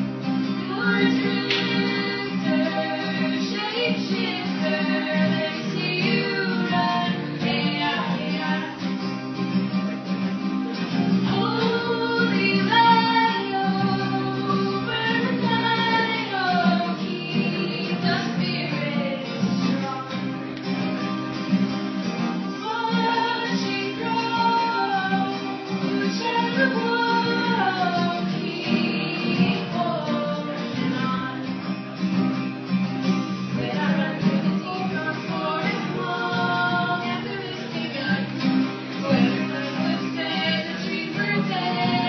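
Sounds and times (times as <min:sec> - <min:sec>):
strummed acoustic guitar: 0:00.0 - 0:42.0
woman singing: 0:00.4 - 0:09.2, 0:11.1 - 0:20.5, 0:22.4 - 0:31.8, 0:33.4 - 0:42.0.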